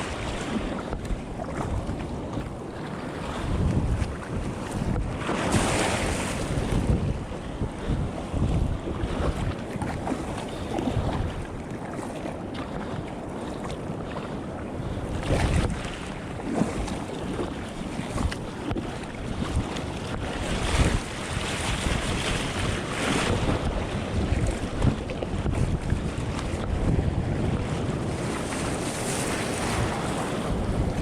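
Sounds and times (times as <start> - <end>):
sea water rushing: 0.0 - 31.0
wind buffeting the microphone: 0.0 - 31.0.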